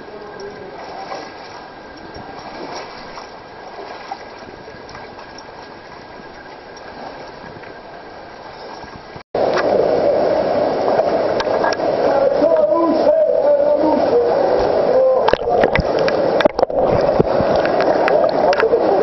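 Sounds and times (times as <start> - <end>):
stream rushing through rocks: 0.0 - 19.0.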